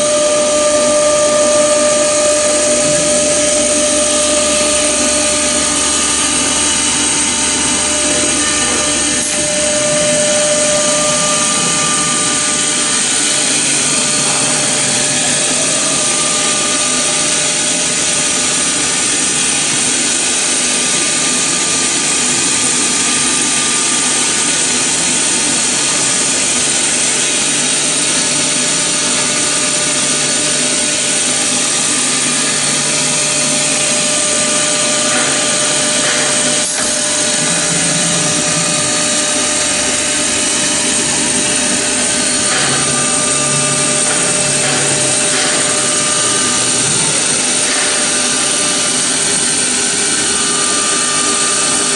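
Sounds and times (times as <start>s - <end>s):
machine spindle whine: 0.0s - 51.9s.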